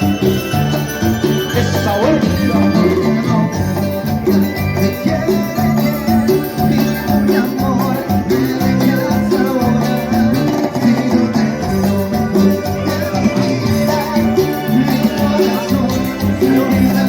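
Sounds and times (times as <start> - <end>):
bass line: 0.0 - 17.0
live cumbia band playing: 0.0 - 17.0
percussion beat: 0.0 - 17.0.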